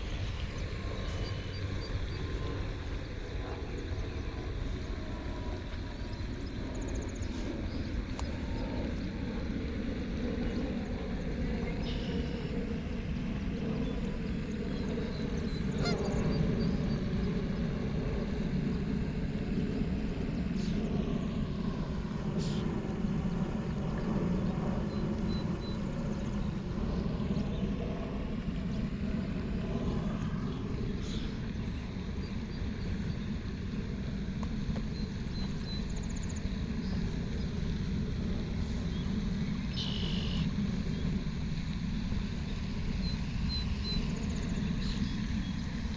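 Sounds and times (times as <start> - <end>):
low outdoor rumble: 0.0 - 45.9.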